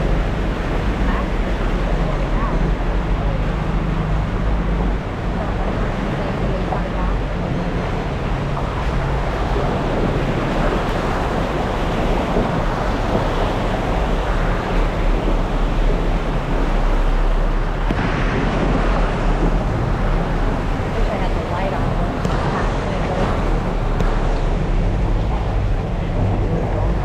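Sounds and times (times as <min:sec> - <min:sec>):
road noise: 0:00.0 - 0:27.0
wind buffeting microphone: 0:00.0 - 0:27.0.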